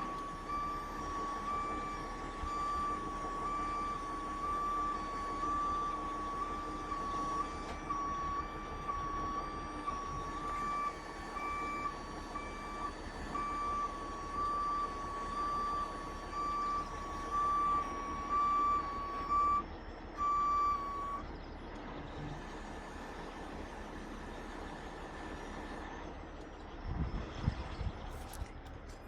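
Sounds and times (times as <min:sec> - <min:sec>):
vehicle backup alarm beeping: 0:00.0 - 0:26.8
diesel truck engine running: 0:00.0 - 0:29.0.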